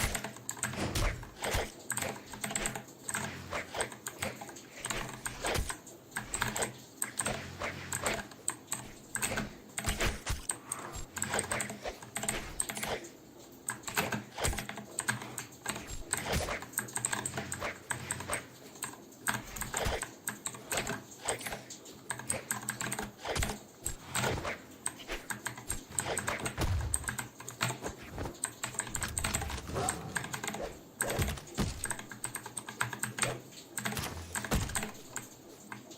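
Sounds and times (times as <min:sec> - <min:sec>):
mechanical keyboard typing: 0:00.0 - 0:35.9.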